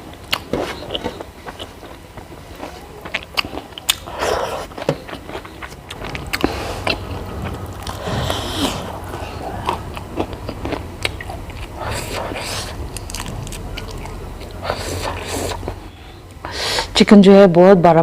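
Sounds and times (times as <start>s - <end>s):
chewing and mouth noises: 0.0s - 16.8s.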